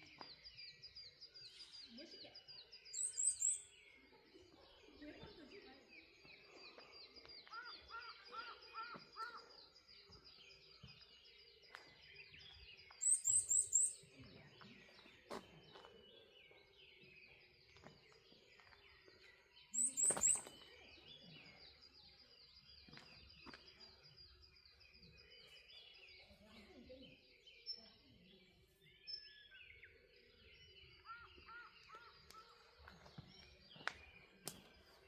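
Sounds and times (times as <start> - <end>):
chorus of high bird chirps: 0.0 - 35.0.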